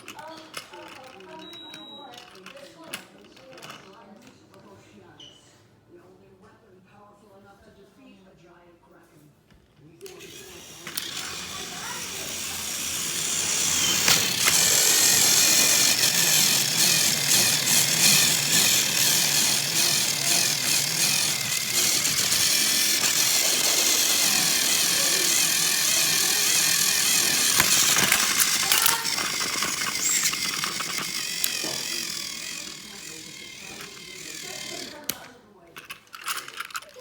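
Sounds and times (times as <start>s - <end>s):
small motor whirring: 0.0s - 2.9s, 10.0s - 37.0s.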